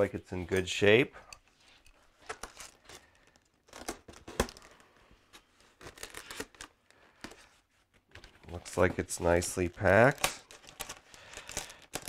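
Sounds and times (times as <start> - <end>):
packaging rustling: 2.1 - 12.0.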